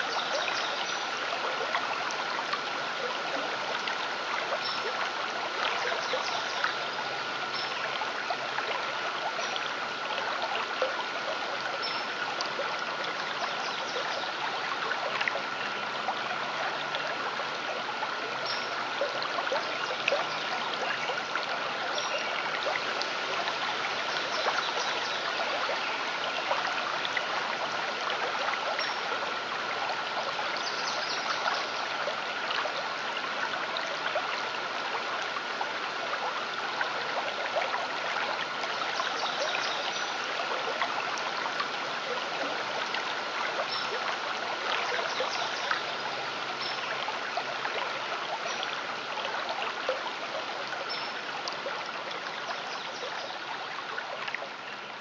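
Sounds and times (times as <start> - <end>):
stream water trickling and splashing: 0.0 - 55.0.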